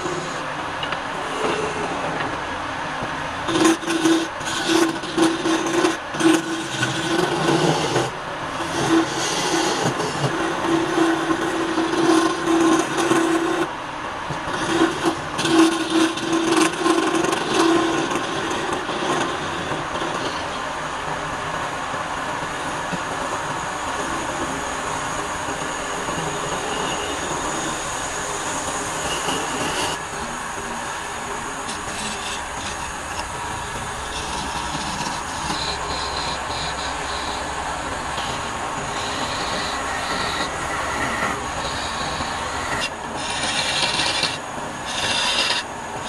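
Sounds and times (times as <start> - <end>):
turning tool rasping wood: 0.0 - 0.5, 3.5 - 13.7, 14.5 - 20.6, 25.5 - 46.0
wood lathe humming: 0.0 - 2.3, 3.4 - 13.7, 14.5 - 20.6, 23.9 - 46.0.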